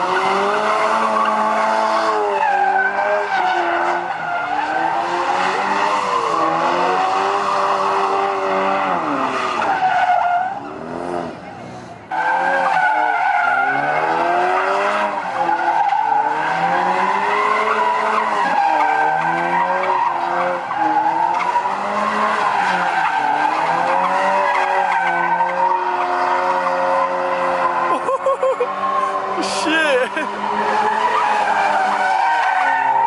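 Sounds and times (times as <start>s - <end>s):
car engine revving: 0.0s - 9.7s, 10.4s - 28.1s, 28.7s - 33.0s.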